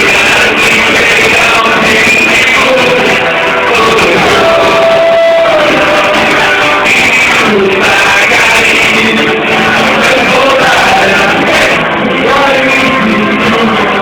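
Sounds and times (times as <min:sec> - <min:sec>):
band playing: 0:00.0 - 0:14.0
person singing: 0:00.0 - 0:14.0.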